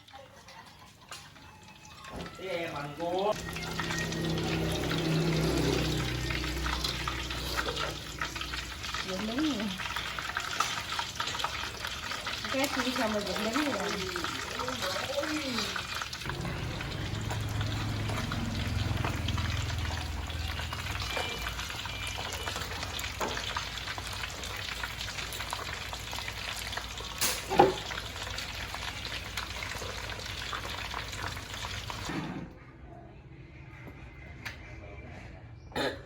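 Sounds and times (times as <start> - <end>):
hot oil sizzling: 0.0 - 32.2.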